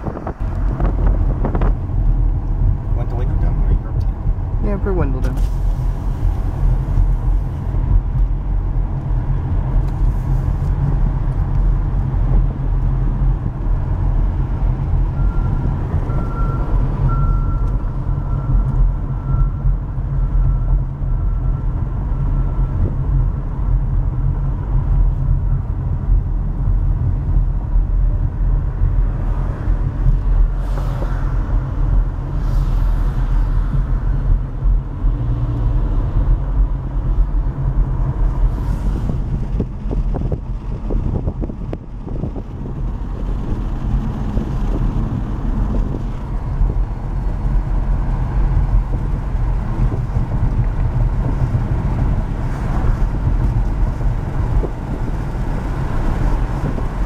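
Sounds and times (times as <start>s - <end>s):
low vehicle rumble: 0.0s - 57.0s.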